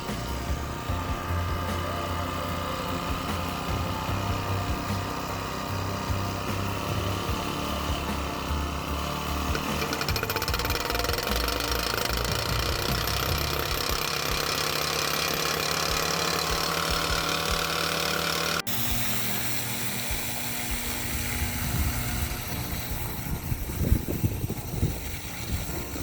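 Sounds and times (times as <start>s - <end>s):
small gas engine running: 0.0s - 26.0s.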